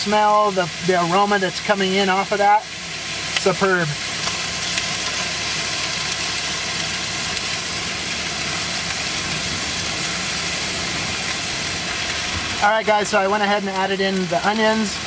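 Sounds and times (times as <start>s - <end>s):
chicken sizzling in a skillet: 0.0s - 15.0s.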